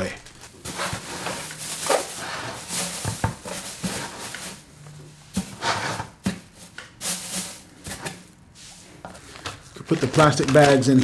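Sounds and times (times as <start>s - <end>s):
plastic bag rustling and crinkling: 0.0s - 8.4s, 9.1s - 11.0s.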